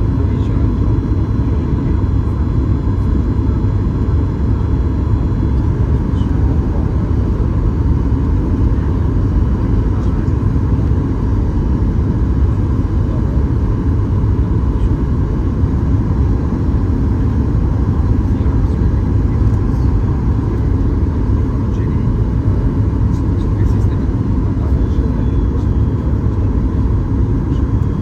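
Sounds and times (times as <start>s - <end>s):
aircraft cabin engine rumble: 0.0s - 28.0s.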